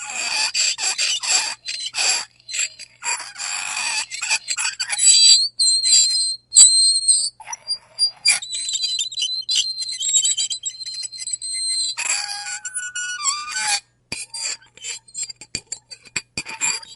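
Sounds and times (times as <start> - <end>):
fork scraping a plate: 0.0 - 16.9.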